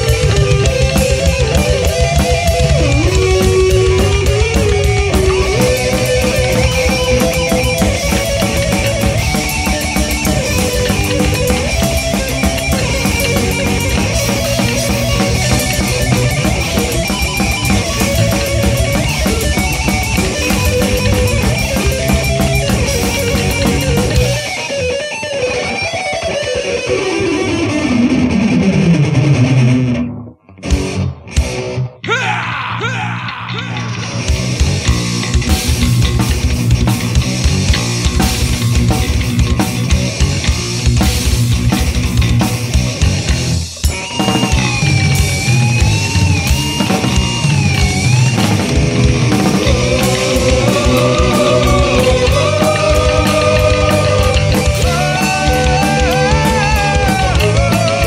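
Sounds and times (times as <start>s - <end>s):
heavy metal band playing: 0.0s - 58.0s
heavy metal electric guitar: 0.0s - 58.0s.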